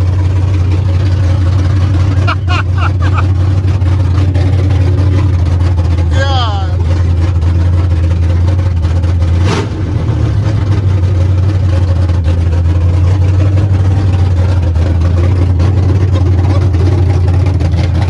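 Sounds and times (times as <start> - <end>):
truck engine idling loud: 0.0 - 18.0.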